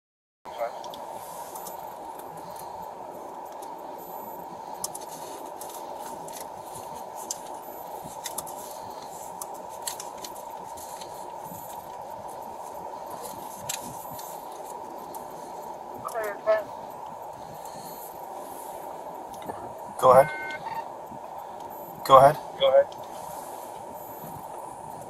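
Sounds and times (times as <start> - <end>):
steady low hiss: 0.5 - 25.0.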